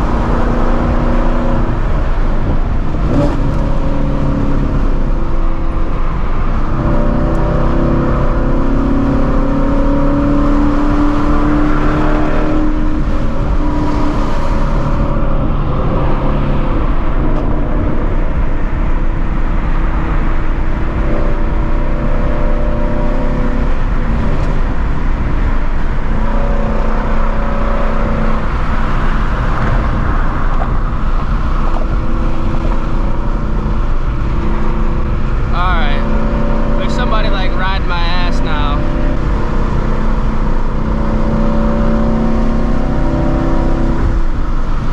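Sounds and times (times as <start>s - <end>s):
loud car exhaust while driving: 0.0s - 44.9s.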